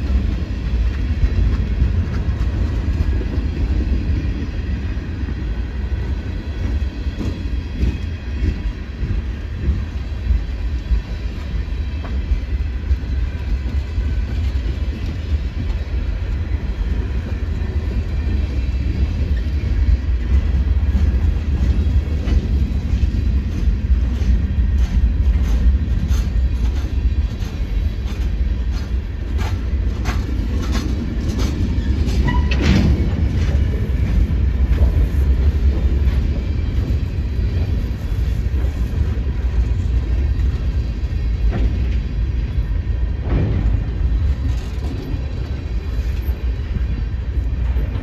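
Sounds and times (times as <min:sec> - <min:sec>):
train rumbling past: 0:00.0 - 0:48.0
wheels clacking over rail joints: 0:00.0 - 0:48.0.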